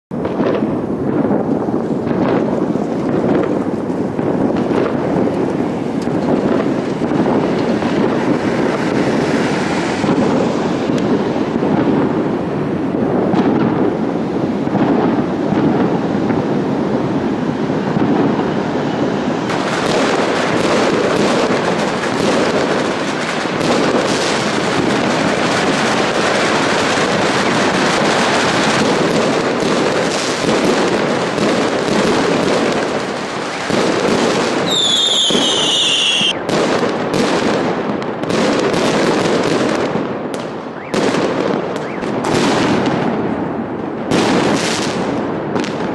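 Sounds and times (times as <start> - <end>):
fireworks crackling and popping: 0.1 - 45.9
loud firework bangs: 0.1 - 45.9
whistling firework: 0.2 - 45.9.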